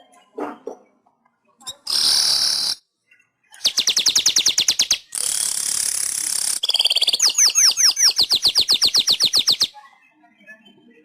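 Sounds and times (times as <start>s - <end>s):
weaver bird song: 1.5s - 11.0s.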